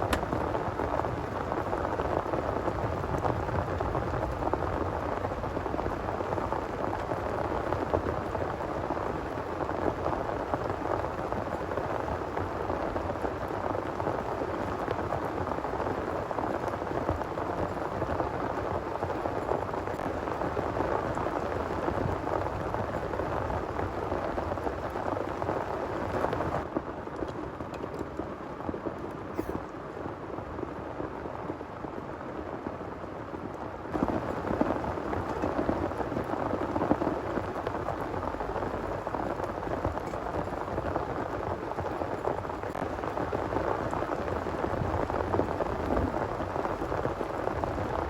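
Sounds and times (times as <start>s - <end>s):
heavy rain pouring: 0.0s - 26.8s, 28.0s - 48.0s.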